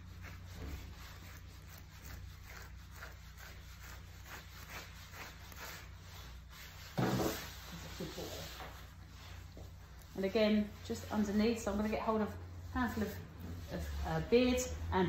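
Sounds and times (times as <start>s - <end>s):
brush raking through dog fur: 0.0s - 14.9s.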